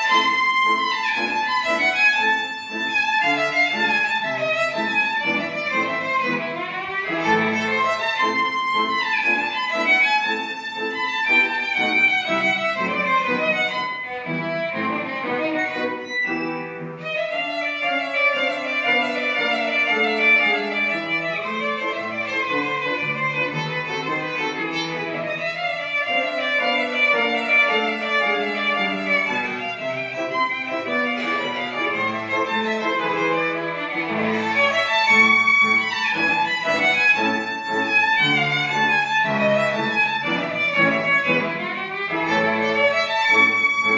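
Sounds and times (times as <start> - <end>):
lower accompanying notes: 0.0 - 43.9
violin melody: 0.0 - 43.9.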